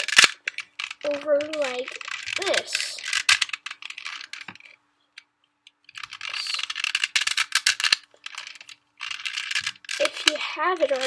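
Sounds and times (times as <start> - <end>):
puzzle cube clicking: 0.0 - 4.7, 5.8 - 11.0.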